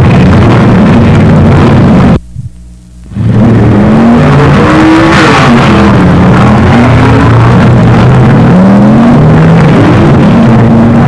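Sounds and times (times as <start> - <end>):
drag racing car engines: 0.0 - 2.2, 3.0 - 11.0.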